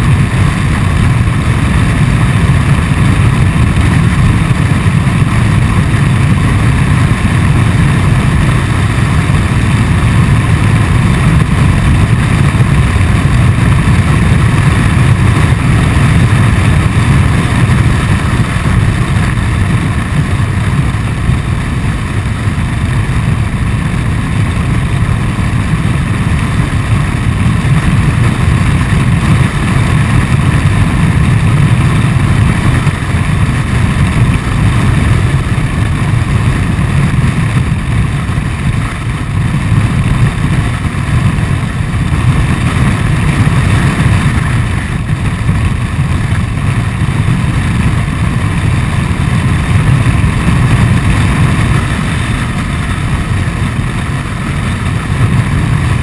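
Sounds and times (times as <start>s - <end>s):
scooter engine running: 0.0s - 56.0s
wind buffeting microphone: 0.0s - 56.0s.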